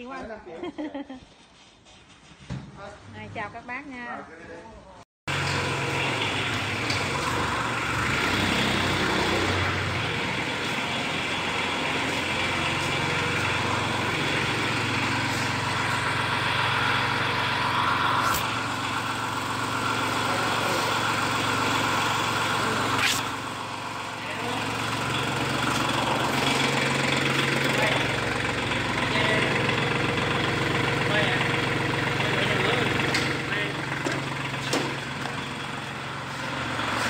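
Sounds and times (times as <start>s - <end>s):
tractor engine running: 5.3s - 37.0s.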